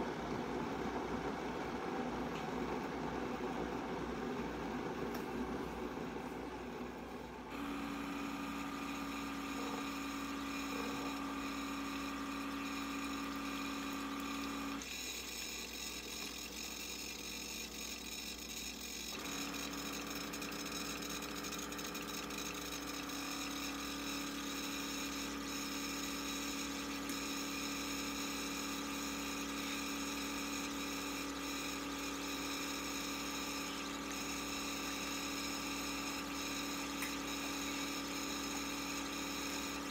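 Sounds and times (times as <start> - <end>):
coffee maker pump hum: 0.0 - 39.9.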